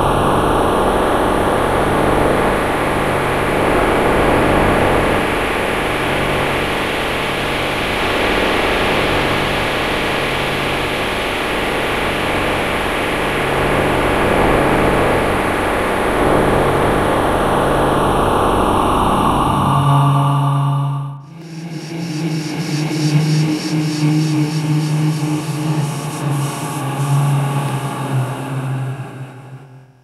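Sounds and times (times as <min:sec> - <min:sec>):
pulsing electronic drone: 0:00.0 - 0:30.0.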